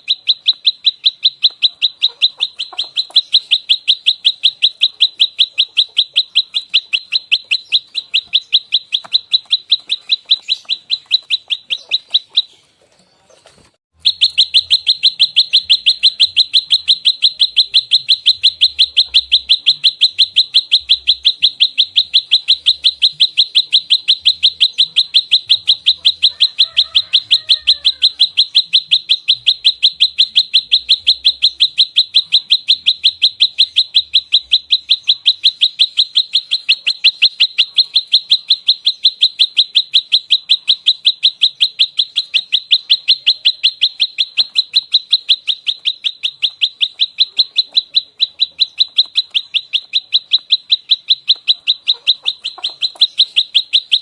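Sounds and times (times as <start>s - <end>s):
bird rapid high chirps: 0.0s - 54.0s.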